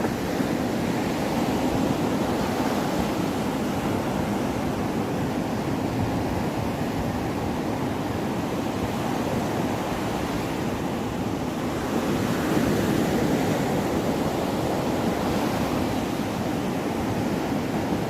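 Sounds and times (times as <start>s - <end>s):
sea surf washing on shore: 0.0s - 18.0s
wind on microphone: 0.0s - 18.0s.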